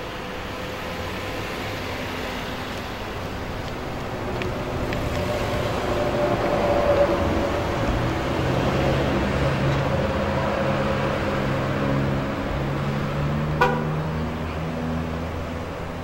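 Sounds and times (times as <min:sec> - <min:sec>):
traffic engine hum: 0:00.0 - 0:16.0.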